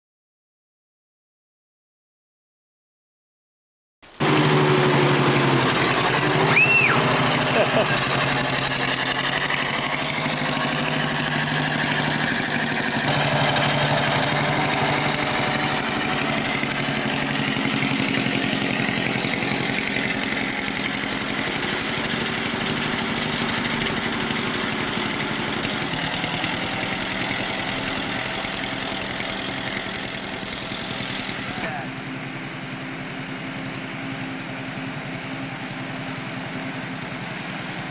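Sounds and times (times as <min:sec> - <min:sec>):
tractor engine running: 0:04.0 - 0:37.9.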